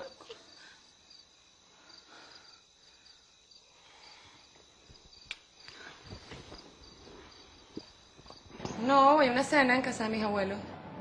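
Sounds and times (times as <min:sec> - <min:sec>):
faint cricket chirping: 0:00.0 - 0:10.8.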